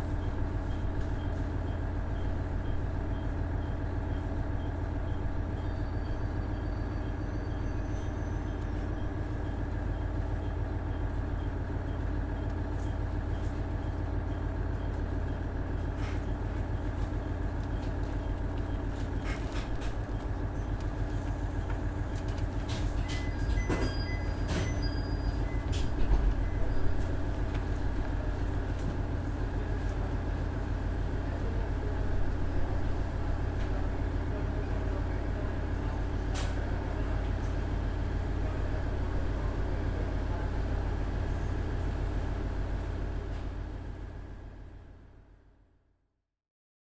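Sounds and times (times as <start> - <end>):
low rumble of wheels on track: 0.0 - 45.4.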